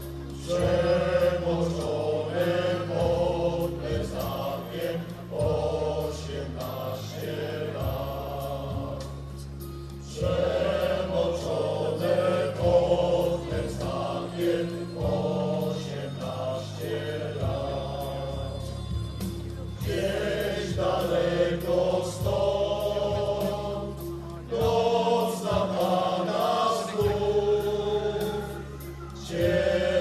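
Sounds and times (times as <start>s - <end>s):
choir singing over held chords: 0.0s - 30.0s.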